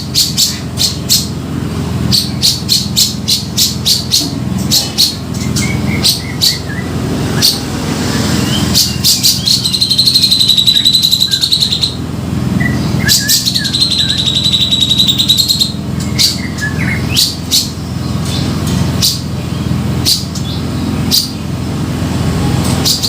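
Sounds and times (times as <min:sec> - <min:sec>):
bird chattering trills: 0:00.0 - 0:01.4, 0:02.0 - 0:21.6, 0:22.7 - 0:23.0
steady low hum: 0:00.0 - 0:23.0.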